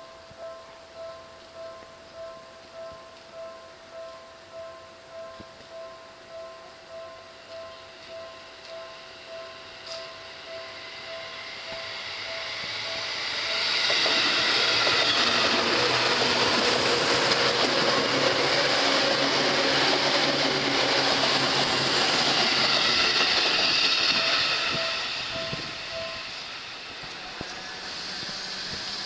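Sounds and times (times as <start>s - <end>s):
crossing warning bell ringing: 0.0s - 27.9s
train wheel and rail noise: 0.0s - 29.0s.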